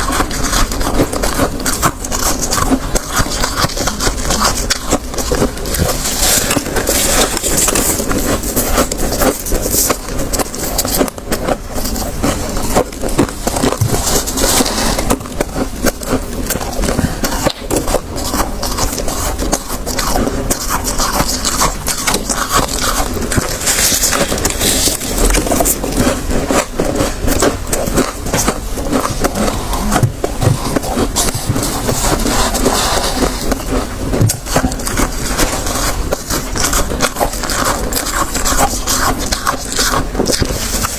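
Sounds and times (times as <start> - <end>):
frost crunching being chewed: 0.0 - 40.9
gloved hand squeezing frost: 0.0 - 40.9.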